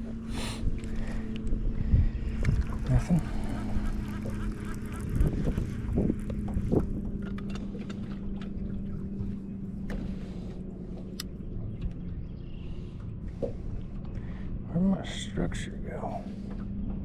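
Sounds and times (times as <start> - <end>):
boat motor humming: 0.0 - 17.0
low rumble: 0.0 - 17.0.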